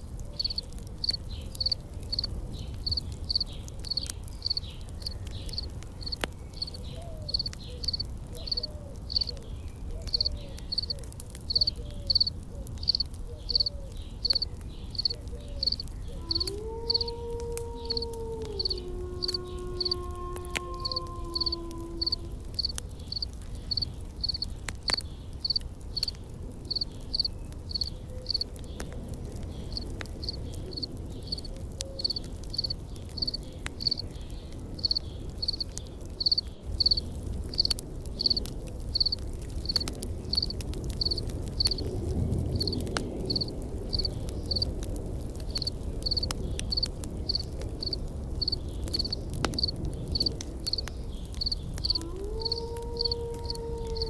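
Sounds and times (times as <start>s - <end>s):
campfire crackling: 0.0s - 54.0s
insect chirping: 0.4s - 9.3s, 10.1s - 10.9s, 11.5s - 12.3s, 12.9s - 17.2s, 17.8s - 20.0s, 20.8s - 24.5s, 25.4s - 26.1s, 26.7s - 28.4s, 29.7s - 34.0s, 34.8s - 37.0s, 37.6s - 41.8s, 42.6s - 44.7s, 45.6s - 50.8s, 51.4s - 54.0s.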